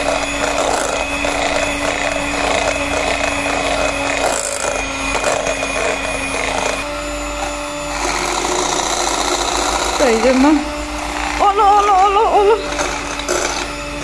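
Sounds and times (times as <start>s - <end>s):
beaters whisking liquid: 0.0s - 14.0s
electric hand mixer running: 0.0s - 14.0s.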